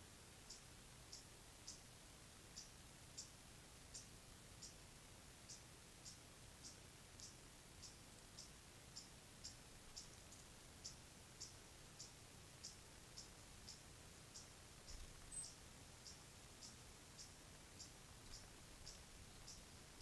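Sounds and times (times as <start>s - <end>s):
low hiss: 0.0s - 20.0s
faint high-pitched chirps: 0.4s - 1.9s, 2.5s - 20.0s.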